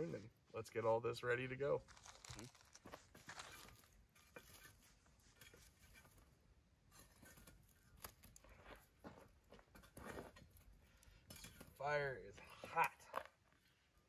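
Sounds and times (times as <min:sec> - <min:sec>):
campfire coals crackling: 0:00.0 - 0:13.8.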